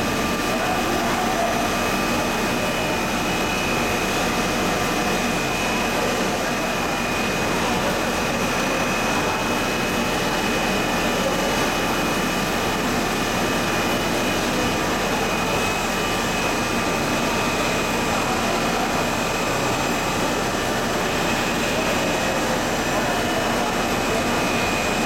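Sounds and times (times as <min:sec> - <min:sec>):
machine drone with high whine: 0:00.0 - 0:25.0.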